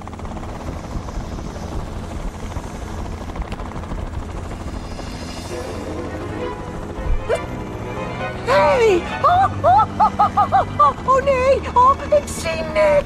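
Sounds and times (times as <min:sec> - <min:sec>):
cartoon helicopter rotor whir: 0:00.0 - 0:13.0.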